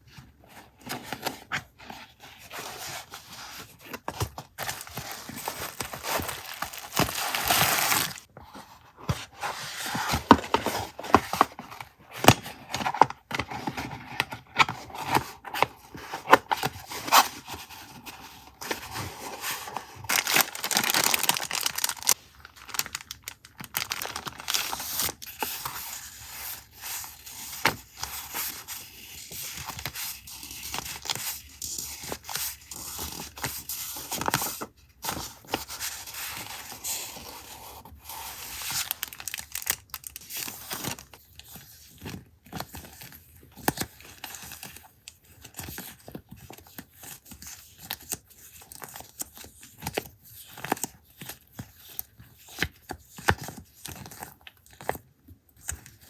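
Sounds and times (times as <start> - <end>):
paper and packaging rustling: 0.1 - 49.2.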